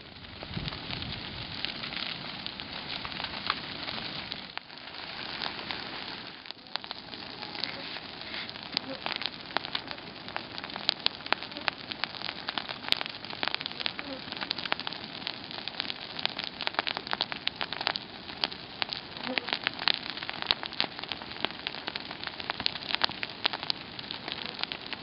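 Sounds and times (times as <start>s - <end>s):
fire crackling pops: 0.0s - 25.0s
grass fire hissing: 0.0s - 25.0s.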